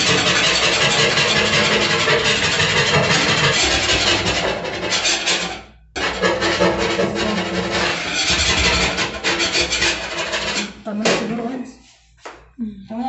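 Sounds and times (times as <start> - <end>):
knife scraping oven floor: 0.0 - 11.6.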